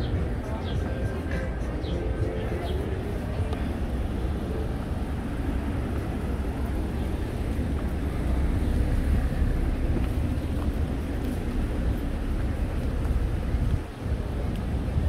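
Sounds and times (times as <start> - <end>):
wind buffeting microphone: 2.8 - 15.0.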